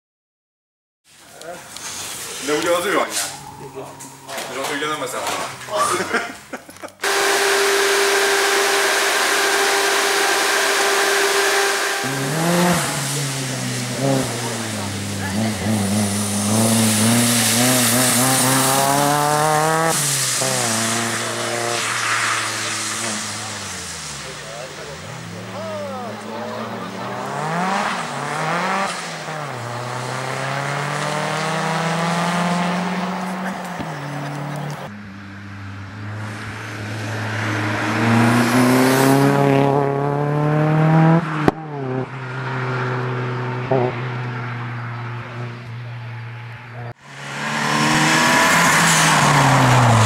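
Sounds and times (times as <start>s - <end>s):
rally car engine accelerating: 7.0s - 50.0s.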